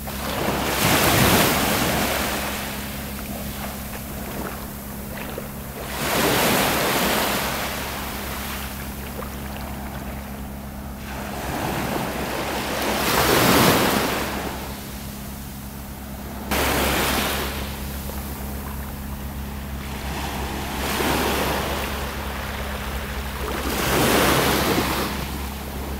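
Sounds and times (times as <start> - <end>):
waves breaking on shore: 0.0 - 25.9.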